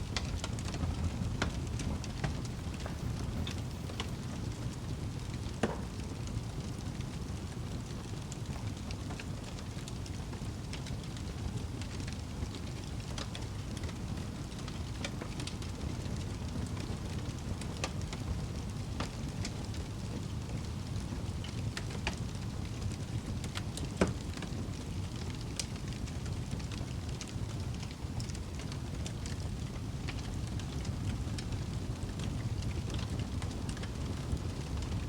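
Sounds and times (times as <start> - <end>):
fireplace fire crackling: 0.0 - 35.0.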